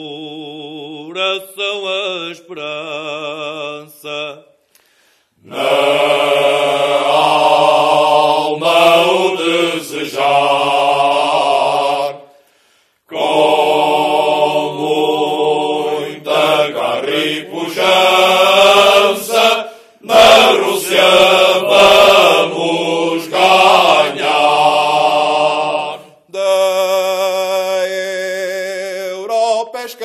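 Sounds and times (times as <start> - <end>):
male choir singing unaccompanied: 0.0 - 4.5, 5.4 - 12.3, 13.1 - 30.0.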